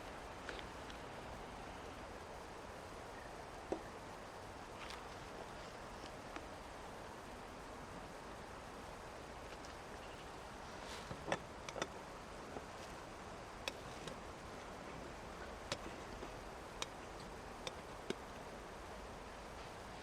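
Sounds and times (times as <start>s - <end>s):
rain hiss: 0.0s - 20.0s
river water running: 0.0s - 20.0s.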